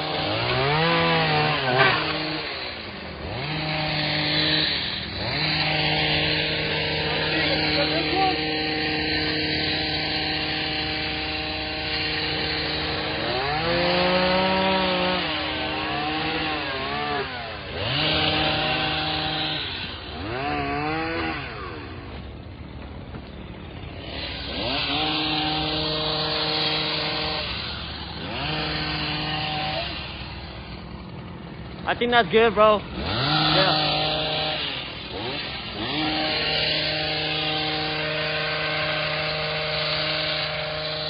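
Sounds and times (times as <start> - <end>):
chainsaw cutting limbs: 0.0 - 41.0.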